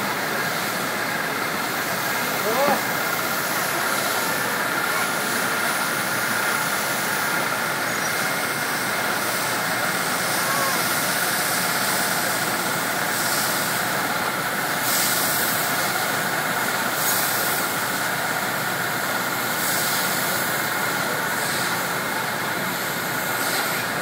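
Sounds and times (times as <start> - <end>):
constant hiss: 0.0 - 24.0
engine running: 0.0 - 24.0.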